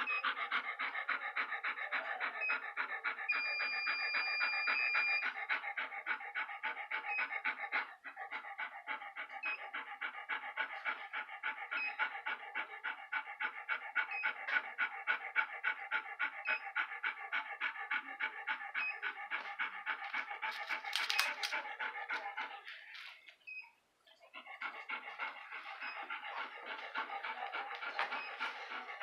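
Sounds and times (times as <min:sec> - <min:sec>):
large dog panting rapidly: 0:00.0 - 0:29.0.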